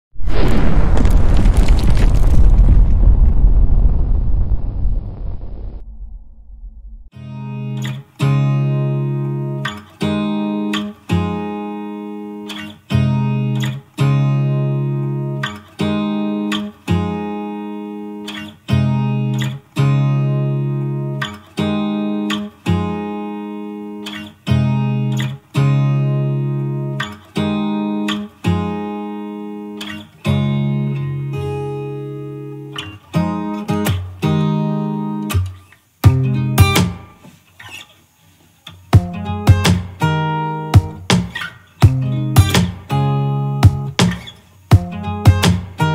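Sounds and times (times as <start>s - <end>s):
guitar plucking chords: 7.2s - 37.1s, 39.0s - 45.9s.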